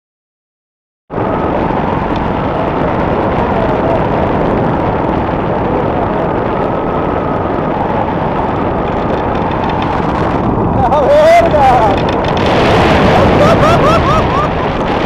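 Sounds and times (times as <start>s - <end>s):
paramotor engine and propeller: 1.1s - 15.0s.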